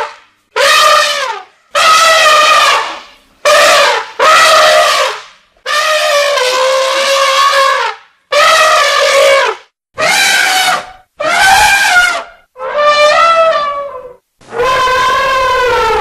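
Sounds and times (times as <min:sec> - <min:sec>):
elephant trumpeting: 0:00.0 - 0:16.0.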